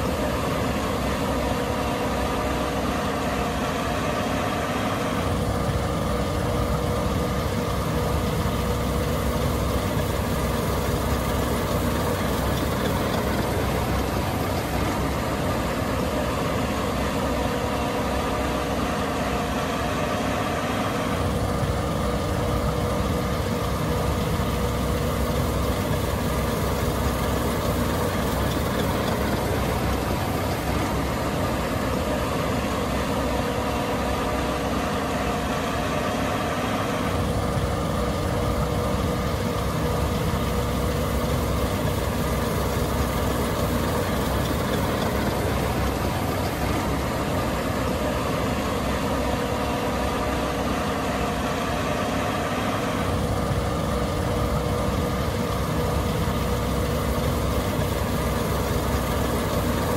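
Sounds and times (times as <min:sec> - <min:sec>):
combine engine drone: 0:00.0 - 0:59.9.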